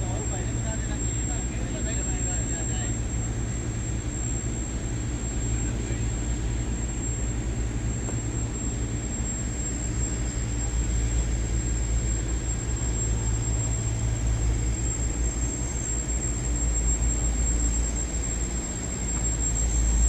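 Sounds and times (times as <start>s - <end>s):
low city rumble: 0.0s - 20.0s.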